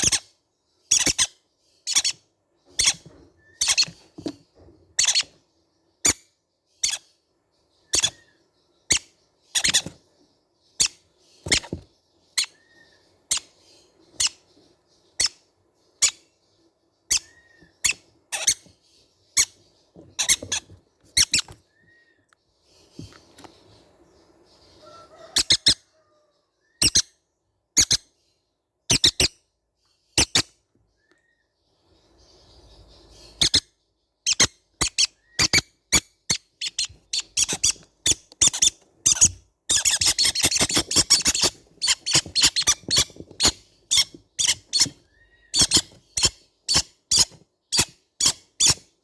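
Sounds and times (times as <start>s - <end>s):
parrot chicks squeaky calls: 0.0s - 7.2s, 7.8s - 10.0s, 10.6s - 16.3s, 17.0s - 22.2s, 24.4s - 27.2s, 27.8s - 28.2s, 28.9s - 29.4s, 30.0s - 30.6s, 32.2s - 49.0s.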